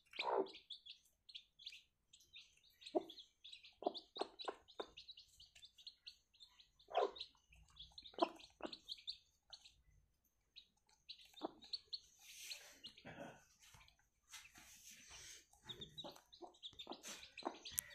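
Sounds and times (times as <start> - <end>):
chicks peeping: 0.0 - 17.9.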